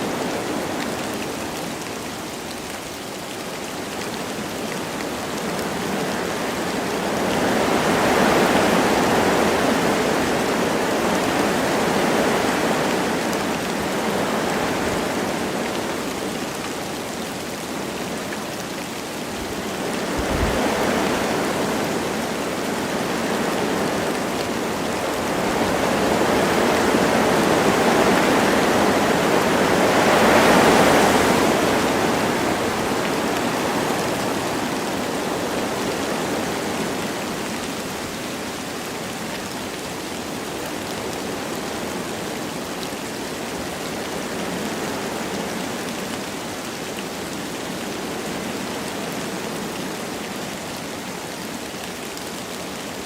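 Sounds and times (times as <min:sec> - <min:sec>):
light rain falling: 0:00.0 - 0:53.0
wind rushing through trees: 0:00.0 - 0:53.0.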